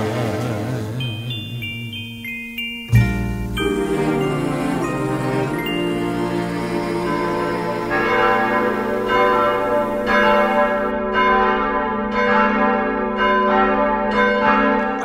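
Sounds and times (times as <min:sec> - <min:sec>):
church bells ringing: 0:00.8 - 0:15.0.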